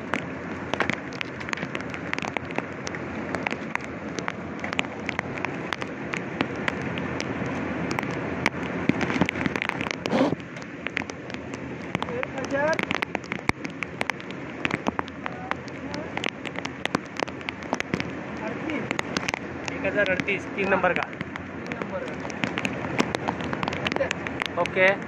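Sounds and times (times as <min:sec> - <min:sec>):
raindrops ticking on plastic and metal: 0:00.0 - 0:25.0
steady rain hiss: 0:00.0 - 0:25.0.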